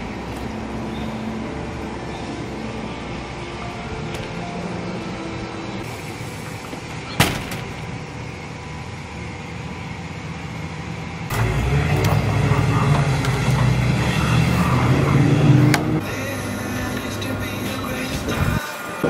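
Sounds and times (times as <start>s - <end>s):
car engine rumbling: 0.0s - 18.6s.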